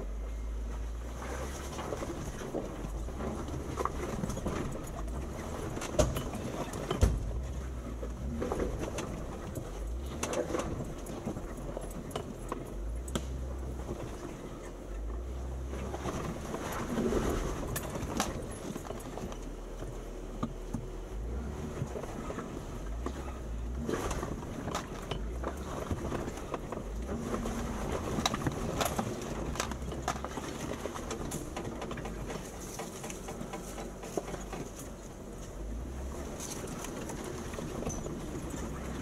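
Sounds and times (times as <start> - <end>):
engine rumbling: 0.0 - 39.0.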